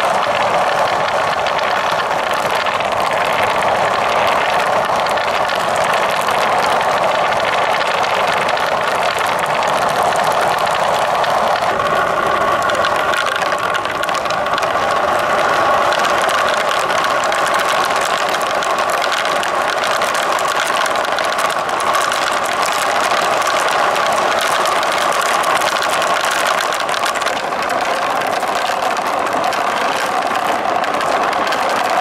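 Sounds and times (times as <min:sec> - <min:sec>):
marbles rolling and clattering: 0:00.0 - 0:32.0.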